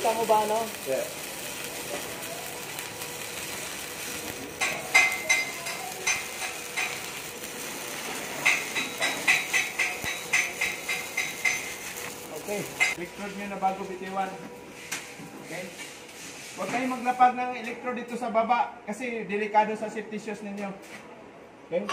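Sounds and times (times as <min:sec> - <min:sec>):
welding arc hissing and crackling: 0:00.0 - 0:17.6.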